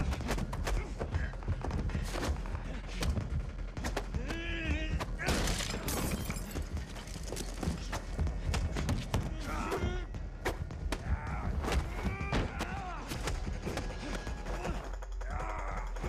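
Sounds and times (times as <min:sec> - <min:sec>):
punches and kicks: 0:00.0 - 0:06.6, 0:07.5 - 0:14.8.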